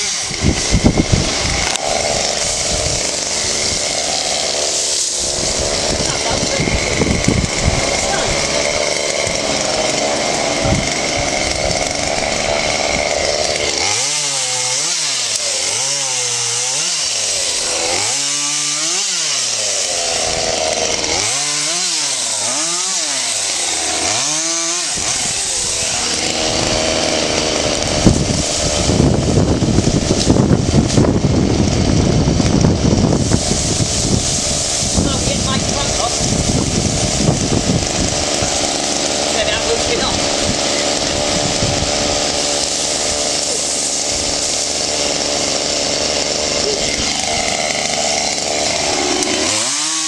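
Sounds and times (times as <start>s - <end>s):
wood cracking and crashing: 0.0s - 33.0s, 33.7s - 50.0s
chainsaw revving: 0.0s - 50.0s.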